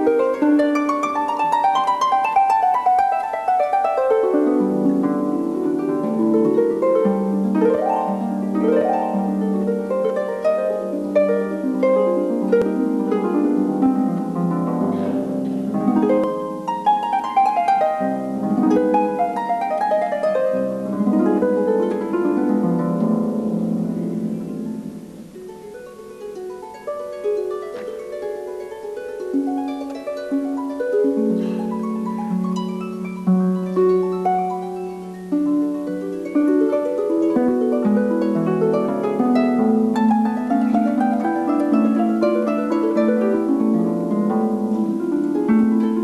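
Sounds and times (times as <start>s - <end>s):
harp plucked notes: 0.0s - 46.0s.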